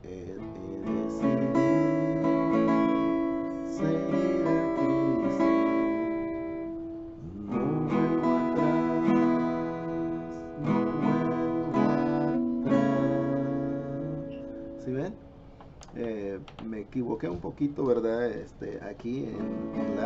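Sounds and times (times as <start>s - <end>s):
acoustic guitar strumming: 0.0s - 15.8s, 19.3s - 20.0s.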